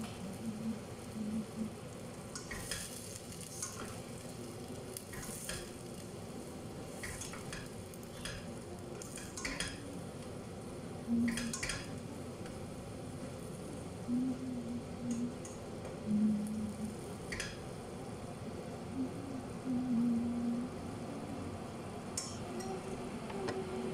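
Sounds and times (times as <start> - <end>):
food frying sizzle: 0.0 - 19.6, 20.2 - 23.9.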